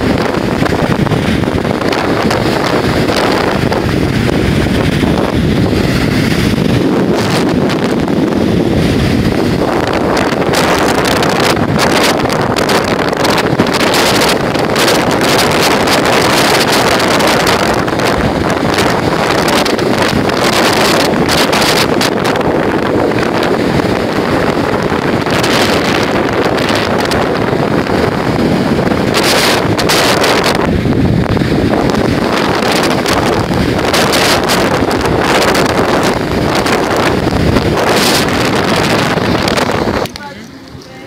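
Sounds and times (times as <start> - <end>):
waves breaking on beach: 0.0 - 41.0
wind noise on microphone: 0.0 - 41.0.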